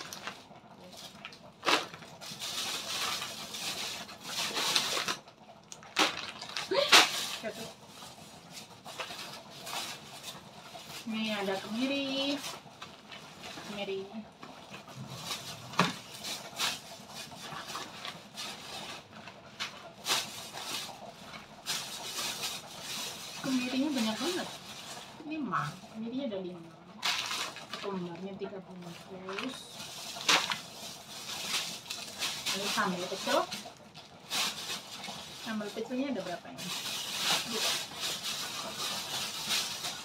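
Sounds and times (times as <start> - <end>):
plastic bags crinkling: 0.0 - 40.0.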